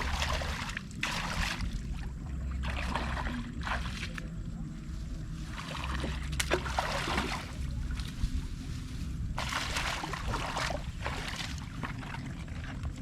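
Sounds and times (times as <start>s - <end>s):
low rumble: 0.0s - 13.0s
water sloshing and splashing: 0.0s - 13.0s.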